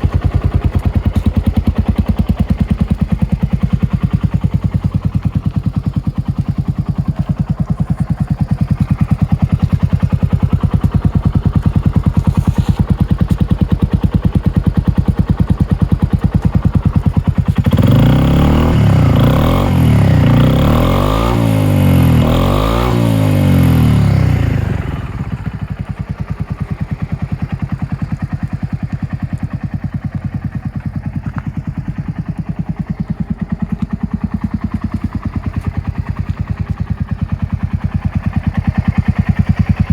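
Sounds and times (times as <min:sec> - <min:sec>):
scooter engine idling and revving: 0:00.0 - 0:39.9.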